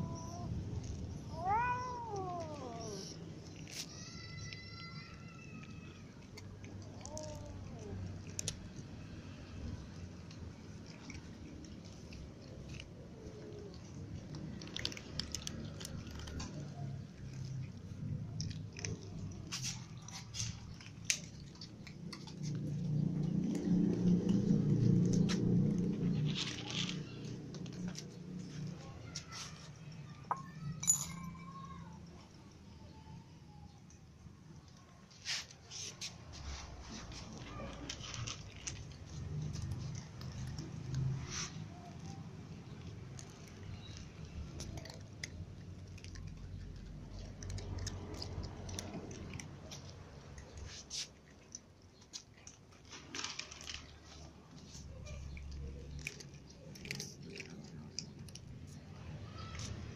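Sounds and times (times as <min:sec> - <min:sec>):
cat crunching dry kibble: 0:00.1 - 0:30.7, 0:33.9 - 0:59.9.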